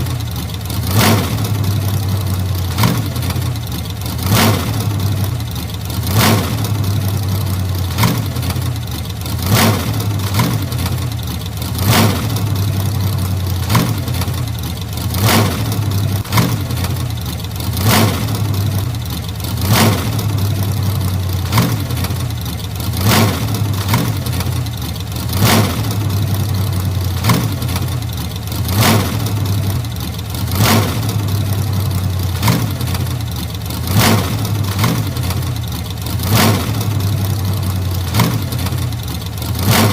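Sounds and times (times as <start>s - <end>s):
old car engine running: 0.0s - 39.9s.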